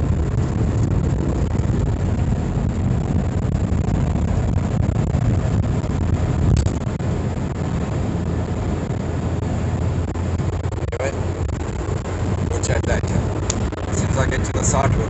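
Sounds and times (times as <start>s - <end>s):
low engine drone: 0.0s - 15.0s
road and wind noise: 0.0s - 15.0s.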